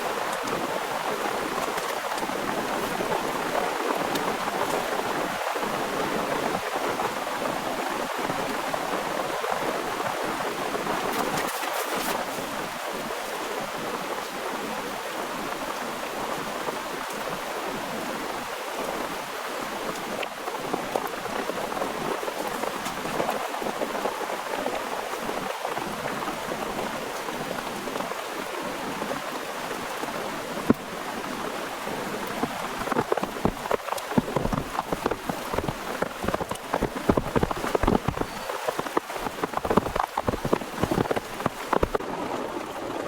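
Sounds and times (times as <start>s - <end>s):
rain falling: 0.0s - 43.0s.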